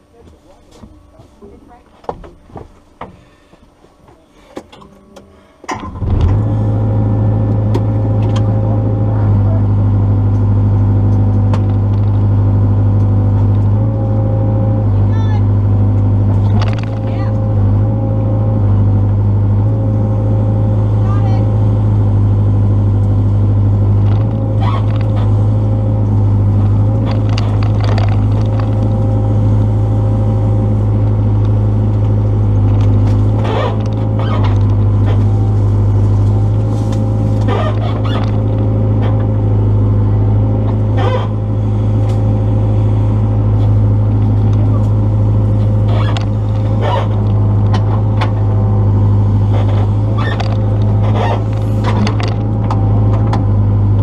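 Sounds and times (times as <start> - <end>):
excavator engine humming: 0.0 - 54.0.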